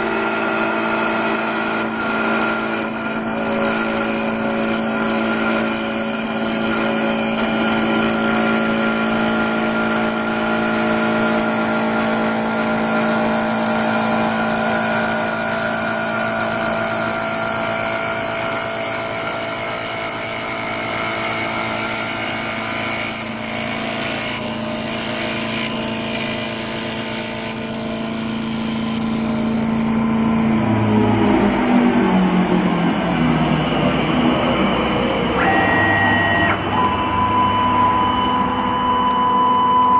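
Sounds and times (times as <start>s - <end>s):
lathe machine hum: 0.0s - 39.9s.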